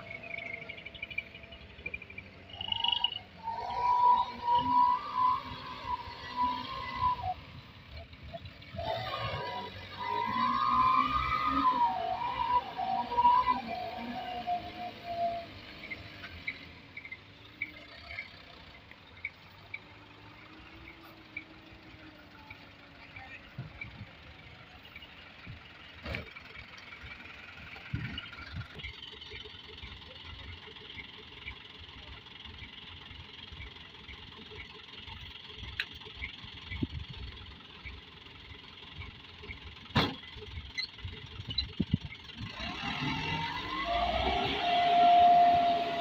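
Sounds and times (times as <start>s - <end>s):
truck diesel engine running: 0.0s - 46.0s.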